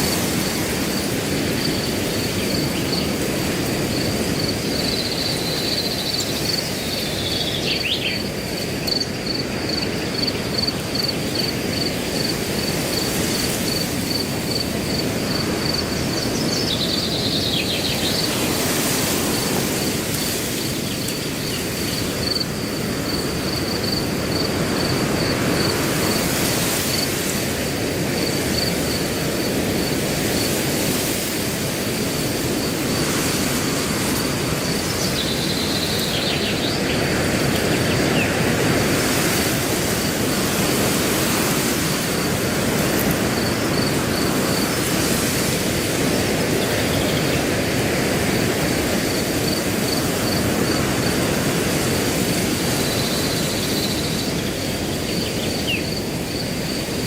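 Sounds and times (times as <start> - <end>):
cricket chirping: 0.0 - 57.0
wind rushing through grass: 0.0 - 57.0.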